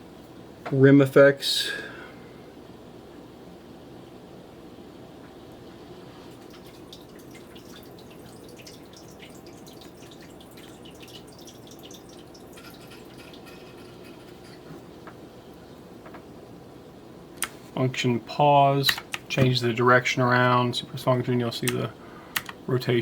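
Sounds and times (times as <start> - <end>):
steady background hiss: 0.0 - 23.0.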